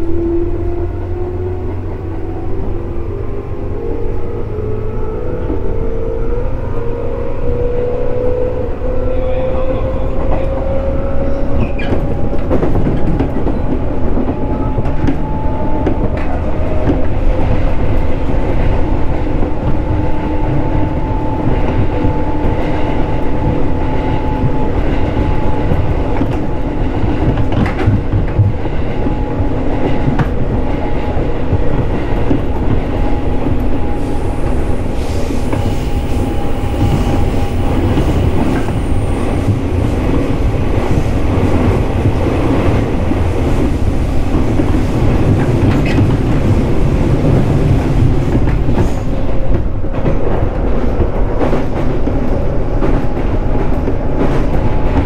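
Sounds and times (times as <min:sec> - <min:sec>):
train wheels rumbling on rail: 0:00.0 - 0:55.0
clickety-clack at rail joints: 0:05.3 - 0:55.0.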